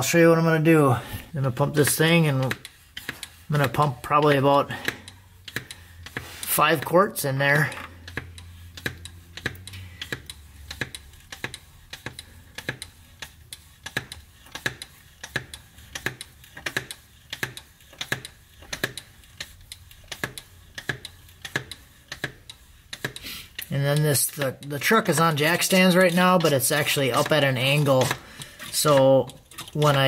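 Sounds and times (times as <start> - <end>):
hand pump clicking: 1.4 - 30.0.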